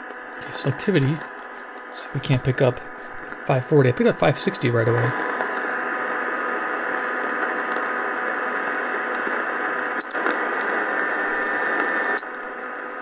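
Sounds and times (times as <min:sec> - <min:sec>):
radio static hiss: 0:00.0 - 0:13.0
radio tuner click: 0:00.0 - 0:13.0.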